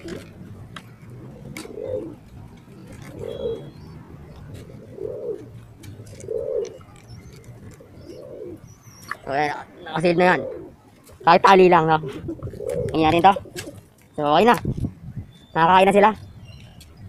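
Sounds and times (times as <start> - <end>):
pigeons cooing: 0.0 - 14.5.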